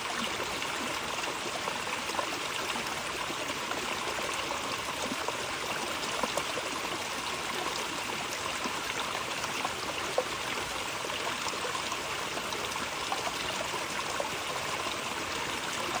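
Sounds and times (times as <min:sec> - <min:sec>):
small stream running water: 0:00.0 - 0:16.0.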